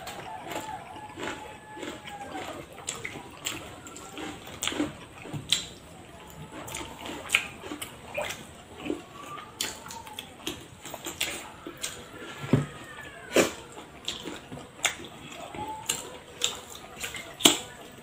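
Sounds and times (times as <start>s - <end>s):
people chewing with wet smacking: 0.0s - 18.0s.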